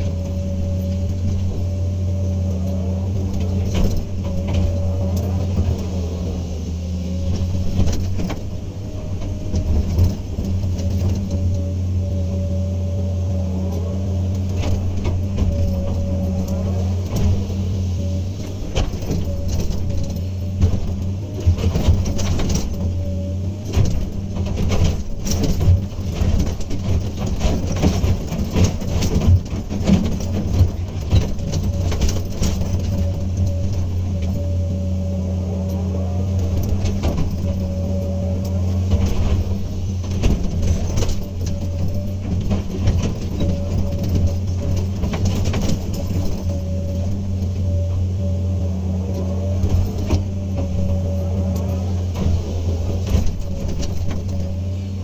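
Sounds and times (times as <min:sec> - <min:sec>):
excavator diesel engine whining: 0:00.0 - 0:55.0.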